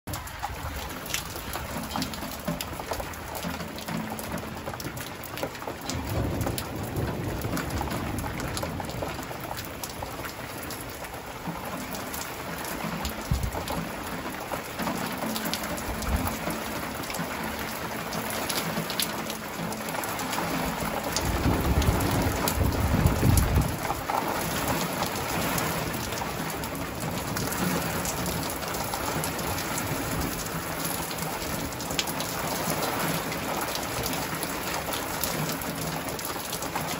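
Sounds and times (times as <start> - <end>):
thunder rumbling: 0.1 - 36.8
rain falling: 0.1 - 36.9.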